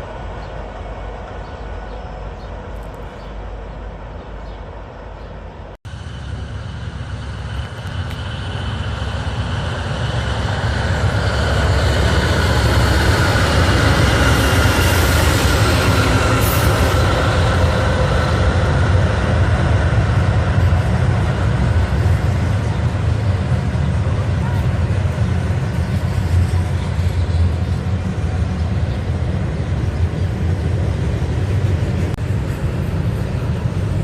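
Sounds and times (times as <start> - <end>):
freight train engine rumble: 0.0 - 34.0.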